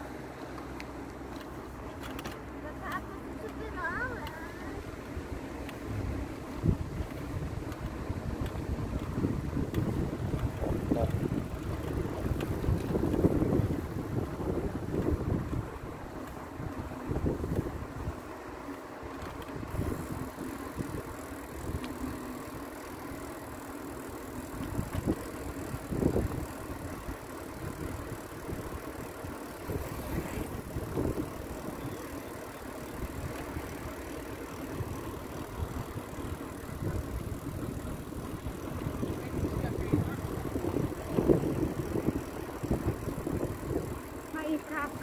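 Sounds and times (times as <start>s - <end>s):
tyres rolling on asphalt: 0.0s - 45.0s
wind buffeting microphone: 3.7s - 18.3s, 19.2s - 22.2s, 24.5s - 32.1s, 32.9s - 45.0s.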